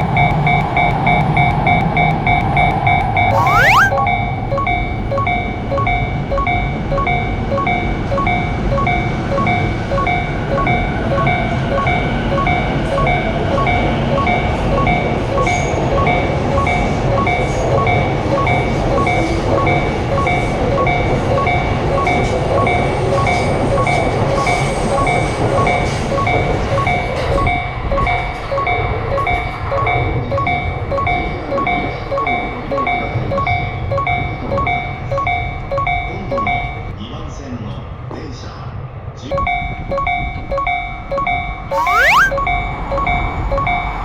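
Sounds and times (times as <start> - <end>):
train rumbling and wheel clatter: 0.0 - 3.2, 5.6 - 36.2, 36.8 - 40.5.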